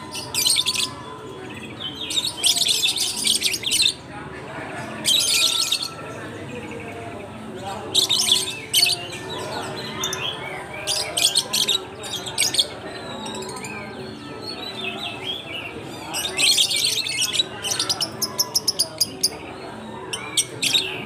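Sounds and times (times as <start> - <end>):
lovebirds chattering: 0.0 - 21.0.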